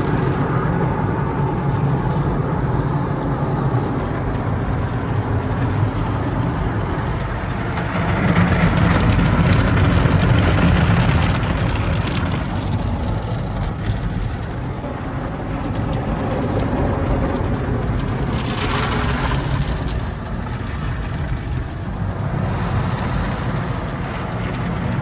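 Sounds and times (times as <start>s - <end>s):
car wash equipment rumbling: 0.0s - 25.0s.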